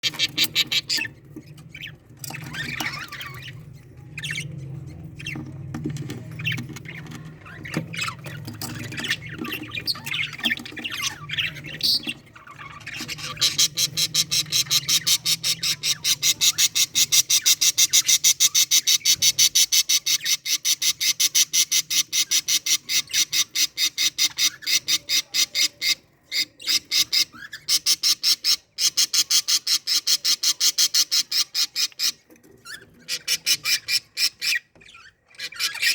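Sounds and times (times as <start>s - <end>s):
budgerigars chirping and warbling: 0.0s - 35.9s.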